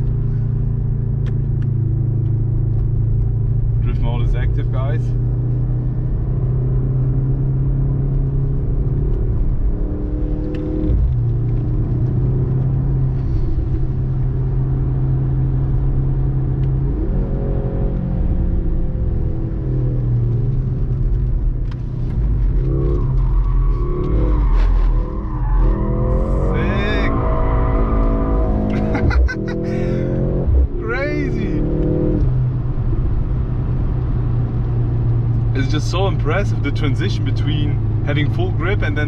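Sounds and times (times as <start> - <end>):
car engine running hard: 0.0 - 39.0.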